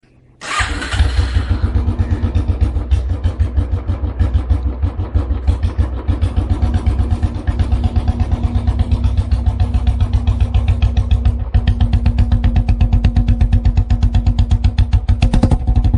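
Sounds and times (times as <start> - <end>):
motorcycle engine running low: 0.4 - 15.9.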